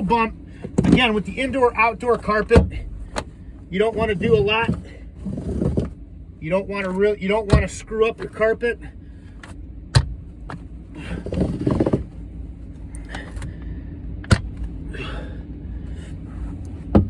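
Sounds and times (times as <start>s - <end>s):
carpet rustling and scraping: 0.0s - 14.8s, 15.8s - 17.0s.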